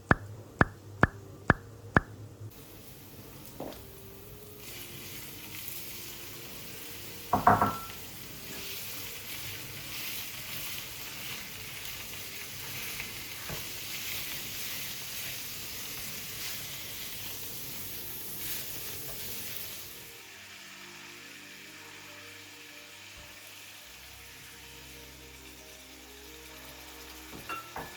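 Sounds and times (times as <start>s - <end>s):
food sizzling in a pan: 2.5s - 27.9s.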